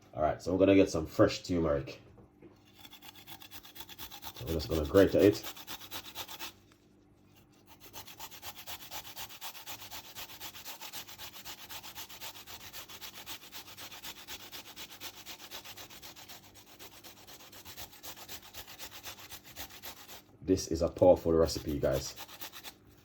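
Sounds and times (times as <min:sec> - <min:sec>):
root scraping on a grater: 0:02.6 - 0:20.2, 0:21.4 - 0:23.0.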